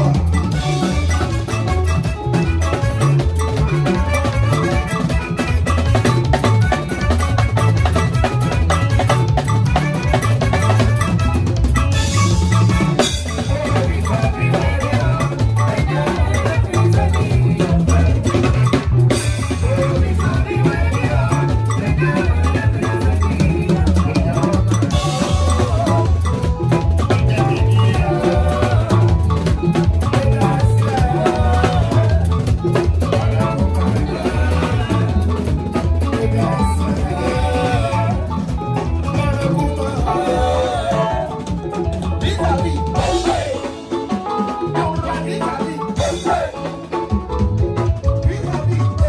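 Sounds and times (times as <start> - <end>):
bass guitar: 0.0 - 49.0
drum kit: 0.0 - 49.0
electric guitar: 0.0 - 49.0.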